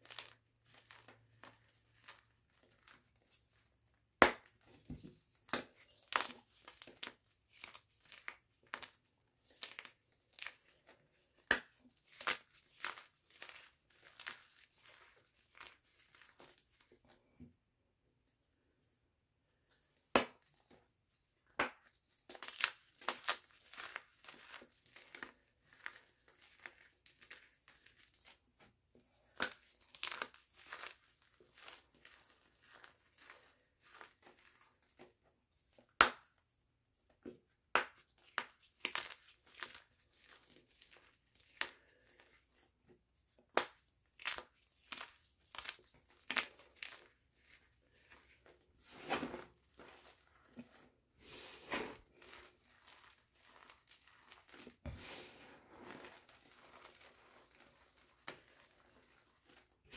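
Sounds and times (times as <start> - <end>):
hands crushing chalk: 0.0 - 3.6, 4.2 - 17.2, 21.4 - 36.4, 37.3 - 42.7, 43.3 - 59.9.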